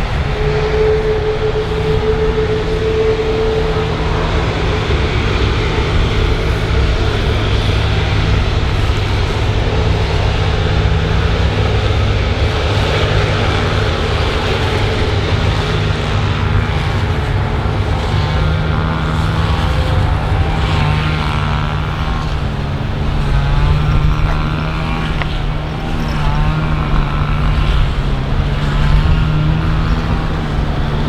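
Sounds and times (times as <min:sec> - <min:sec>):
aircraft engines humming: 0:00.0 - 0:31.0.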